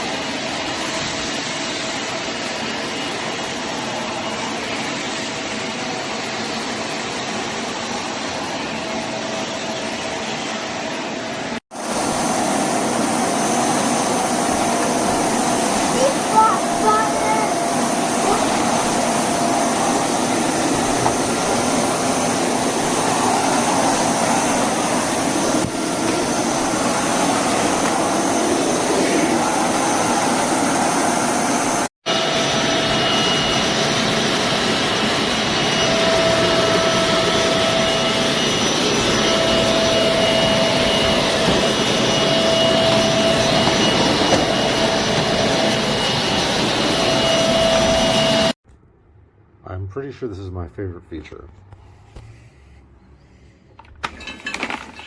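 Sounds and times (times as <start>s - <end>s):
vacuum cleaner running: 0.0s - 48.6s.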